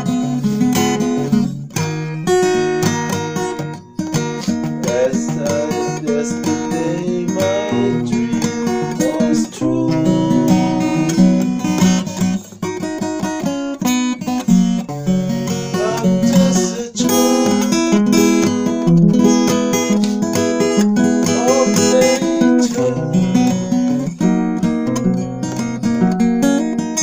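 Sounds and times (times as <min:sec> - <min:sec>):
instrumental music: 0:00.0 - 0:27.0.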